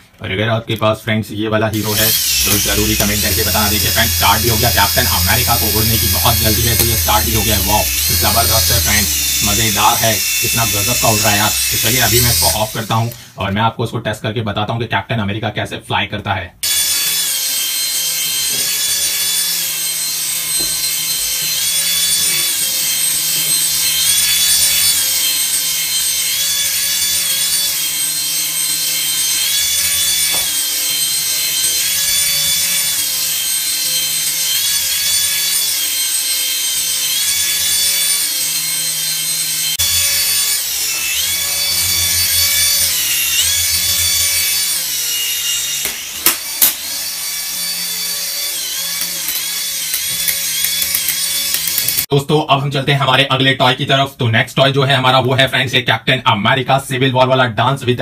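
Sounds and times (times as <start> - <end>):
toy rotors buzzing whir: 1.7 - 13.4, 16.6 - 52.1.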